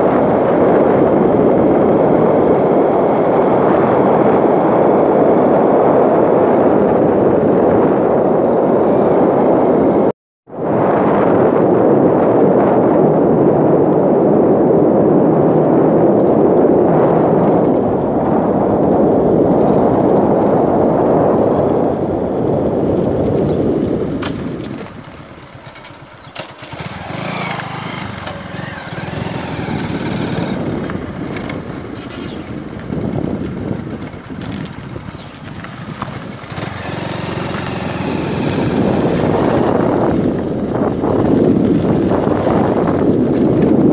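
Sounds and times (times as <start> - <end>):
motorcycle running at road speed: 0.0 - 43.9.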